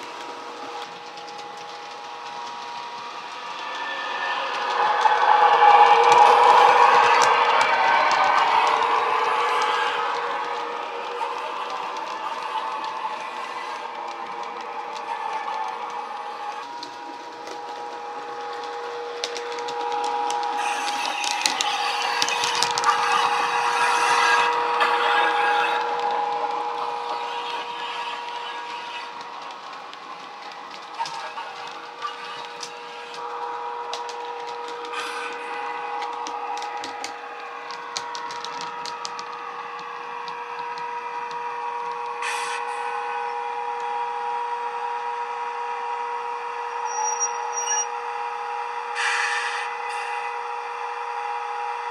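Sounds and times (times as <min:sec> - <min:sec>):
electric locomotive whine: 0:00.0 - 0:51.9
model train wheels on track: 0:00.0 - 0:51.9.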